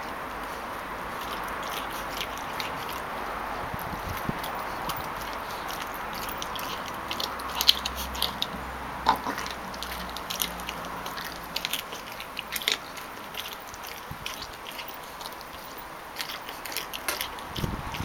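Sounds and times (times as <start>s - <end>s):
dog chewing on bone: 0.0s - 18.0s
bone cracking: 1.2s - 18.0s.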